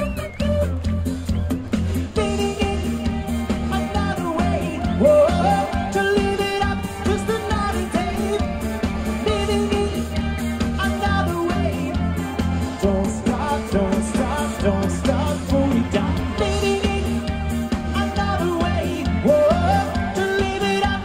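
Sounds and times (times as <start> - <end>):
lead singer: 0.0 - 21.0
live pop-rock band: 0.0 - 21.0
steady drum beat: 0.0 - 21.0.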